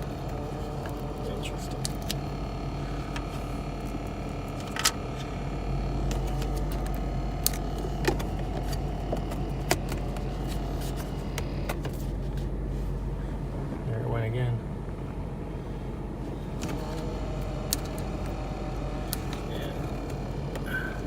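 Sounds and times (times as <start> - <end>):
car cabin hum: 0.0 - 21.0.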